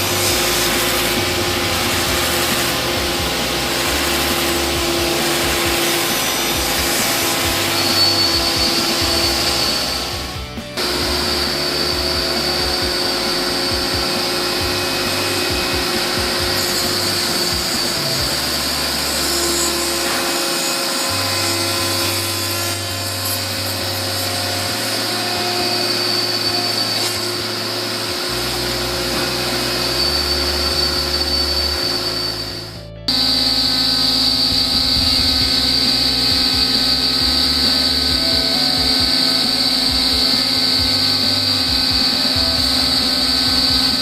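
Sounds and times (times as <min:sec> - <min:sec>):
background music: 0:00.0 - 0:44.0
woodworking machinery whining: 0:00.0 - 0:44.0.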